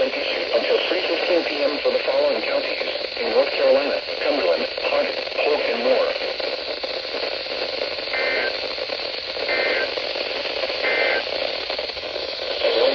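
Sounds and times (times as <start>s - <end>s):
radio static: 0.0s - 12.9s
warbling data tone bursts: 0.0s - 12.9s.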